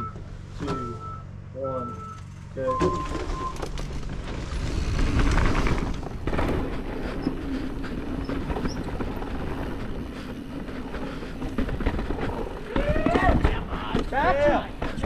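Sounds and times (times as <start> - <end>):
bike rattling: 2.2 - 15.0
tyres over dirt and rock: 2.6 - 15.0.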